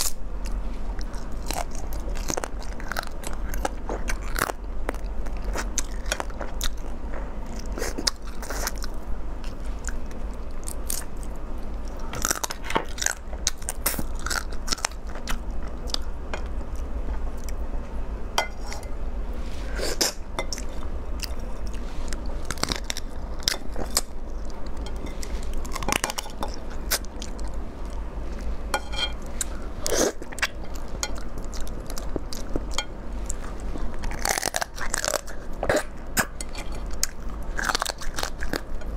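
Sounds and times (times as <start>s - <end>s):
crunching and chewing crab shell: 0.0s - 17.6s, 19.9s - 38.9s
steady low hum: 0.0s - 38.9s.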